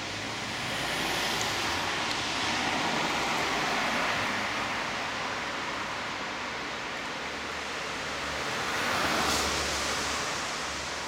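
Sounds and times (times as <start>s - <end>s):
passing car traffic: 0.0s - 11.0s.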